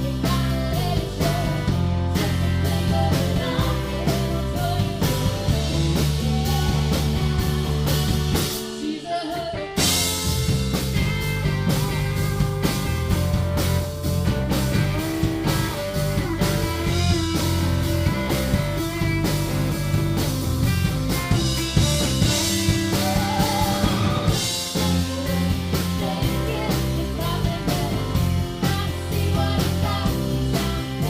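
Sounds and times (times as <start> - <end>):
bass line: 0.0 - 8.8, 9.6 - 31.0
drum kit: 0.0 - 31.0
electric guitar: 0.0 - 31.0.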